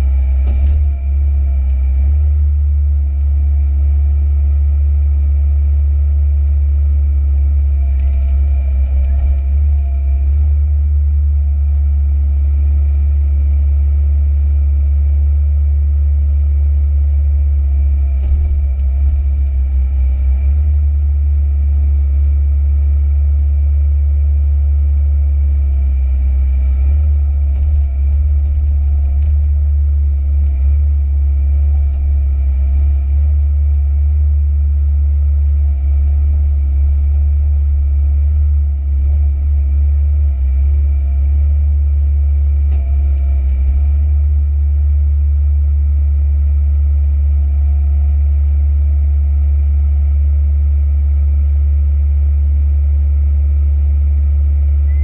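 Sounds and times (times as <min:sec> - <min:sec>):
excavator engine drone: 0:00.0 - 0:55.0.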